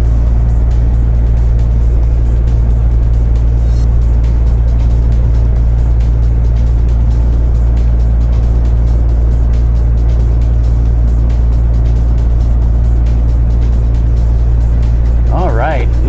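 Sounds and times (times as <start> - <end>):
car engine rumble inside cabin: 0.0 - 16.0.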